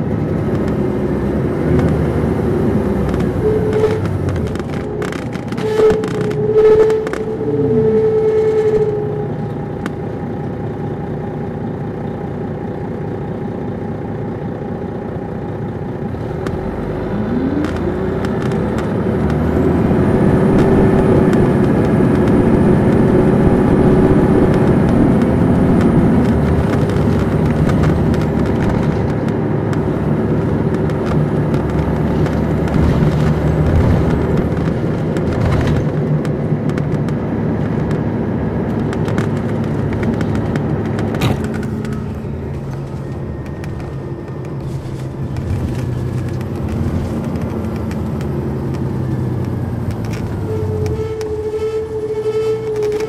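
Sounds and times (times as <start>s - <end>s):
bus diesel engine: 0.0s - 53.0s.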